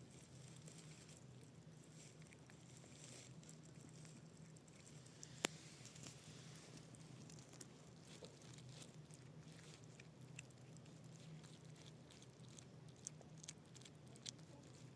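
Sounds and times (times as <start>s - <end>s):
faint low hum: 0.0s - 14.9s.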